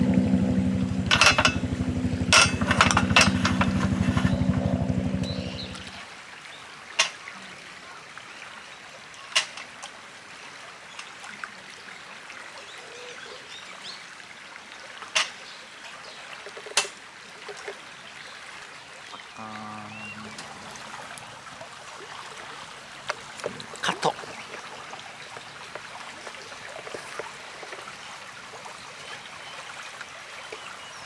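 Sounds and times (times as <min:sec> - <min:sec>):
river water running: 0:00.0 - 0:31.0.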